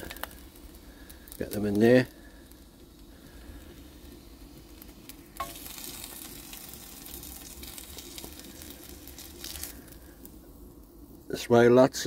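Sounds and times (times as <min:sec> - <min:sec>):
fat sizzling in a frying pan: 0:00.0 - 0:12.0.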